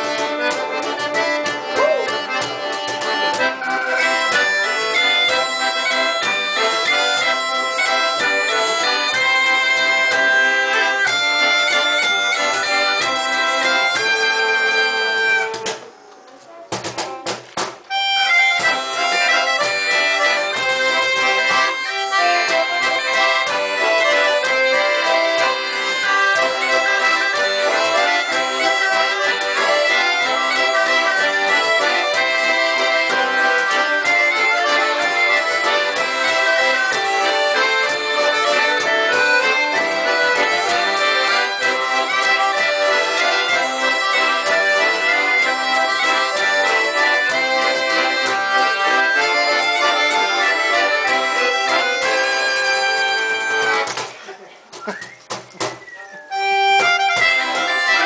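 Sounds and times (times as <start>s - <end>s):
violin: 0.0s - 54.1s, 56.3s - 58.0s
accordions playing a waltz: 0.0s - 55.0s, 55.9s - 58.0s.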